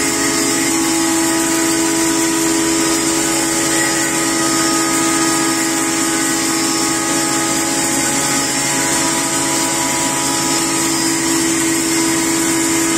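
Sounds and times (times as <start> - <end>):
machine humming with high hiss: 0.0 - 12.9.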